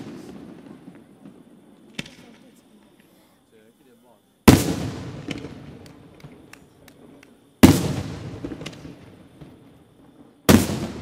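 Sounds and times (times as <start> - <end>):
firework loud bang echoing: 0.0 - 2.3, 4.4 - 11.0
crackling firework pops: 0.0 - 3.2, 4.5 - 11.0.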